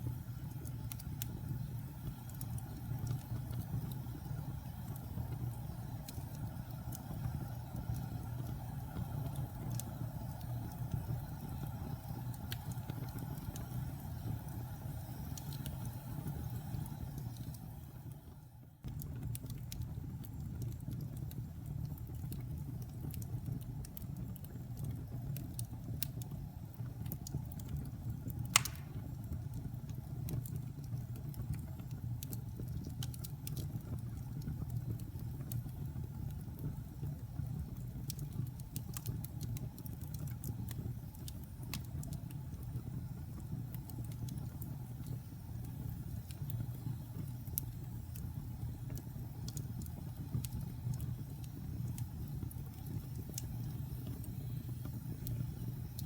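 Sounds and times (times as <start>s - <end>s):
fire crackling and popping: 0.0s - 56.0s
wood fire burning: 0.0s - 56.0s.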